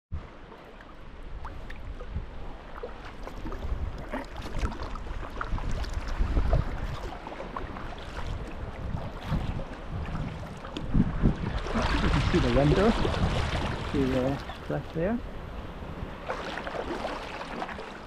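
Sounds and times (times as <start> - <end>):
water splashing and dripping: 0.6 - 15.1, 16.0 - 18.0
wind buffeting microphone: 1.2 - 17.2.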